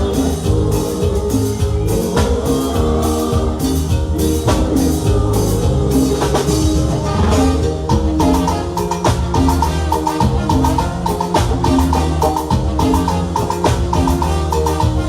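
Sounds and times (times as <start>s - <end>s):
drums keeping steady beat: 0.0s - 15.0s
live cumbia band playing: 0.0s - 15.0s.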